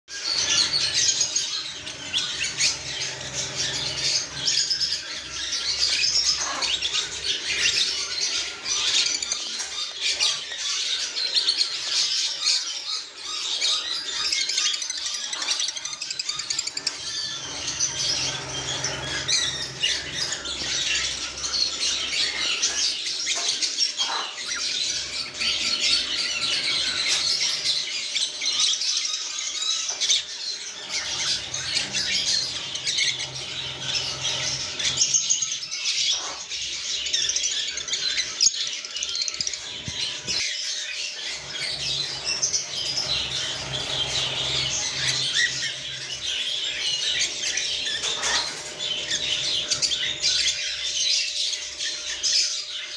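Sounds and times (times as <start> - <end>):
small parrots twittering: 0.1 - 52.9.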